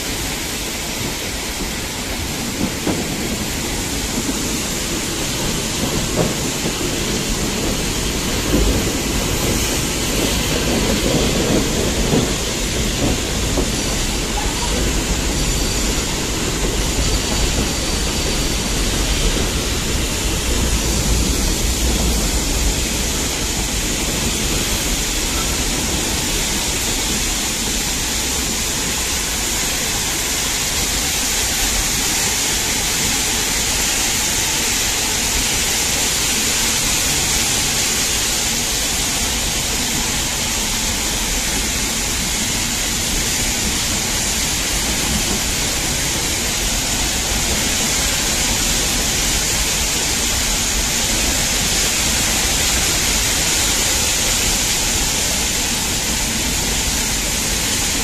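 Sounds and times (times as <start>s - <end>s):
train running heard from on board: 0.0s - 58.0s.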